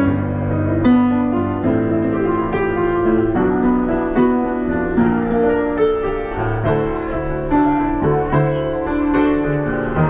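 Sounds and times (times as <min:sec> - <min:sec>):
piano playing: 0:00.0 - 0:10.0.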